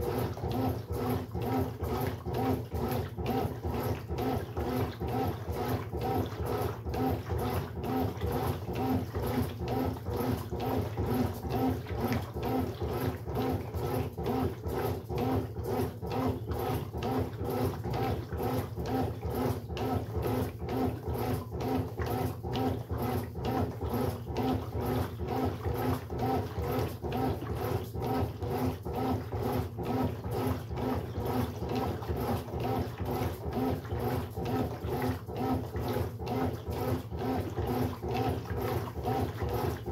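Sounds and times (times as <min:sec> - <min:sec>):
washing machine motor humming: 0:00.0 - 0:39.9.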